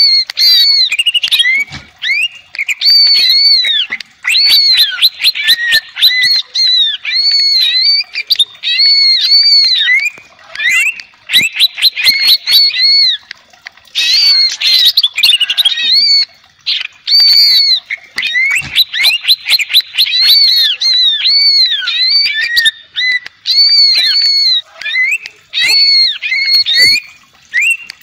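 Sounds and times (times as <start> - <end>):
bird singing whistled phrases: 0.0 - 13.2, 14.0 - 28.0.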